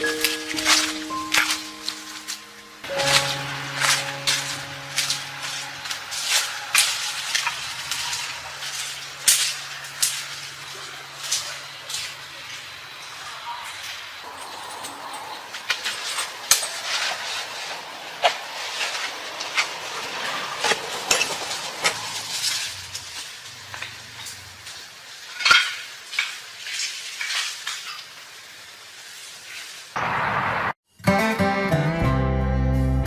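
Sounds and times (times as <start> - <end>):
light steady hiss: 0.0 - 30.8.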